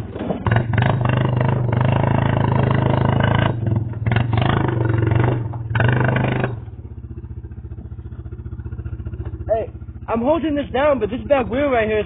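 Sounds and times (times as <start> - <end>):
atv engine running hard: 0.0 - 12.0.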